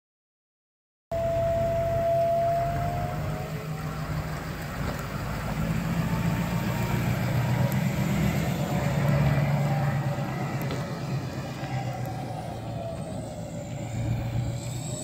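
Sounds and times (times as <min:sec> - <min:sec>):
diesel engine idling: 0:01.1 - 0:15.0.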